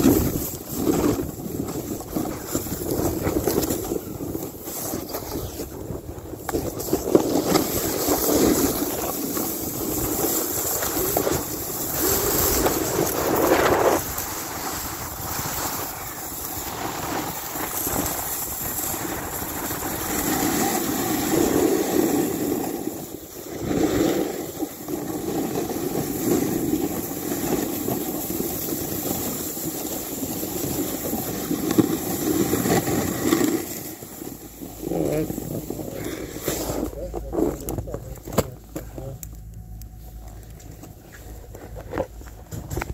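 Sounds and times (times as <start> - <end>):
skis running over snow: 0.0 - 37.9.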